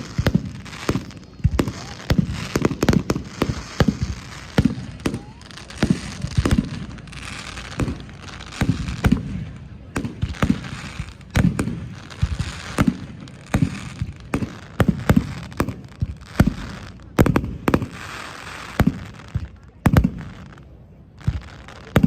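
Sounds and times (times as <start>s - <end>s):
fireworks booms and cracks: 0.0s - 22.0s
fireworks crackling: 0.0s - 22.0s.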